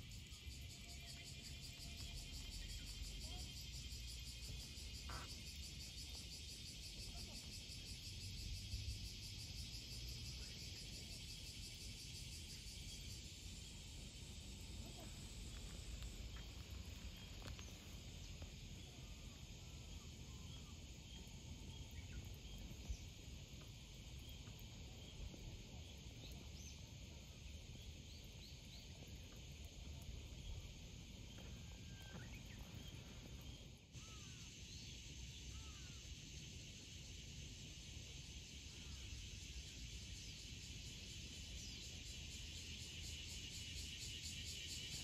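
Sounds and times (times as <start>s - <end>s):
steady high hiss: 0.0s - 45.0s.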